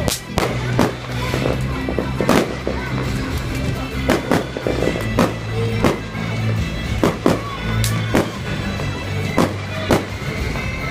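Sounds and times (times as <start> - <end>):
fireworks bursting: 0.0 - 10.9
music playing: 0.0 - 10.9.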